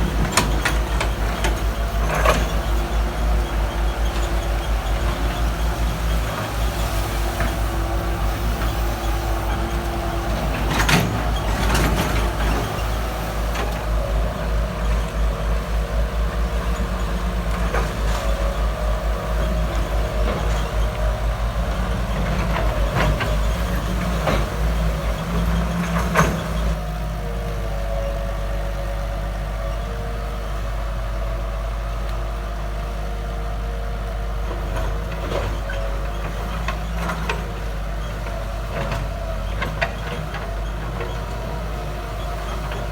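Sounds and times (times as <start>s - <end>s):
diesel engine rumbling: 0.0s - 42.9s.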